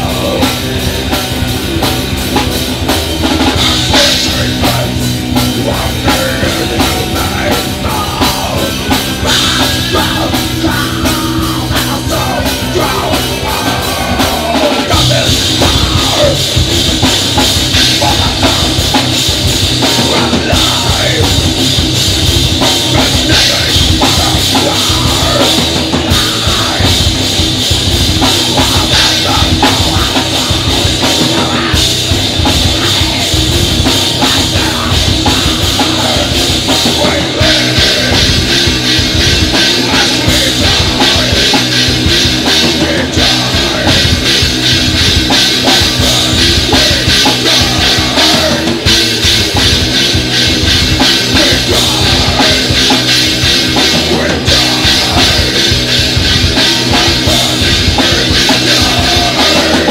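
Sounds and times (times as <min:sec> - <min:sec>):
bass guitar: 0:00.0 - 0:59.9
distorted electric guitars: 0:00.0 - 0:59.9
fast drums with cymbals: 0:00.0 - 0:59.9.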